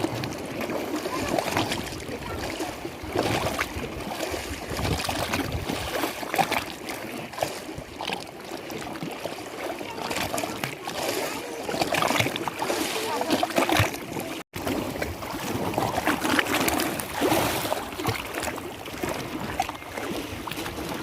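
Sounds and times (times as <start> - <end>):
lake water splashing and lapping: 0.0 - 21.0.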